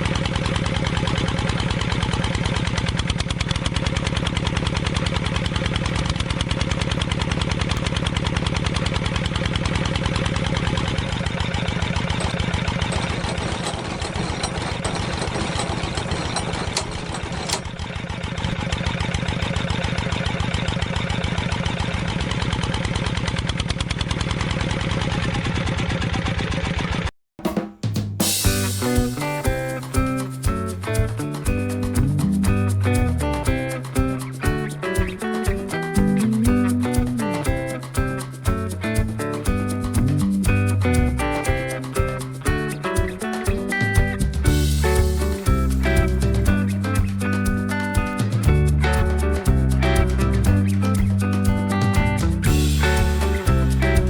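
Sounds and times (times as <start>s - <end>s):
small engine running: 0.0s - 27.1s, 28.4s - 54.0s.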